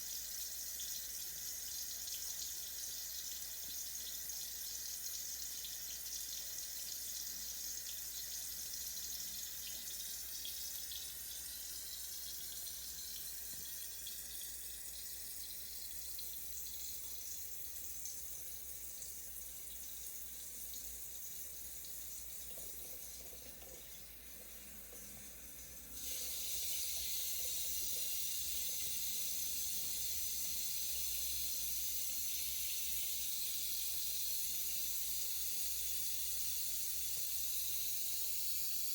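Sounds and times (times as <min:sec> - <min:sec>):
shower spraying water: 0:04.6 - 0:38.9.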